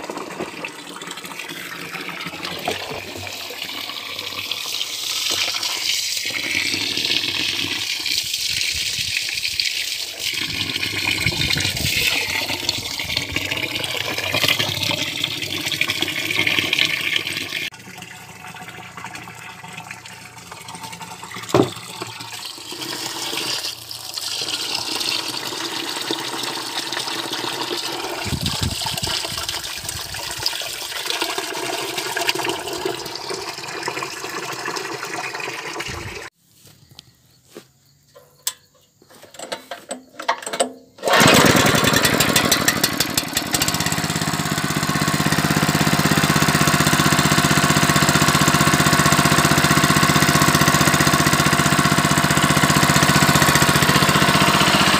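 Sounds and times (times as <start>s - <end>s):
hose water splashing into drum: 0.0s - 36.4s, 41.0s - 54.9s.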